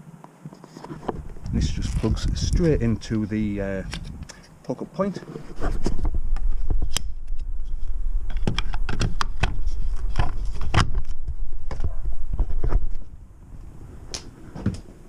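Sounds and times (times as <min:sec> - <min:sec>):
steady low rumble: 0:01.2 - 0:04.7, 0:05.9 - 0:15.0.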